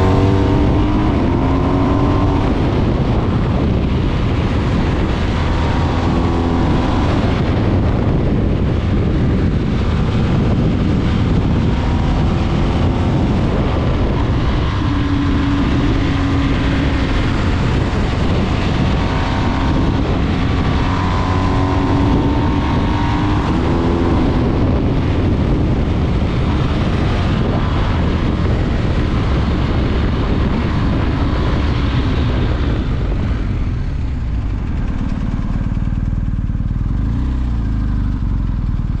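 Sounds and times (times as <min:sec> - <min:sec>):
motorcycle engine hum: 0:00.0 - 0:39.0
wind rush over microphone: 0:00.0 - 0:39.0.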